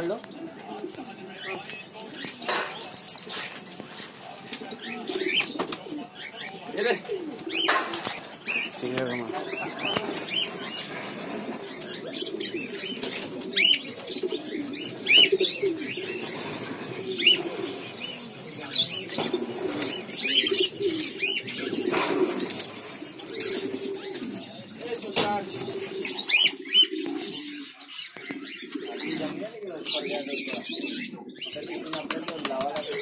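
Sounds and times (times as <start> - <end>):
pigeons cooing: 0.0 - 33.0
small birds chirping: 0.0 - 33.0.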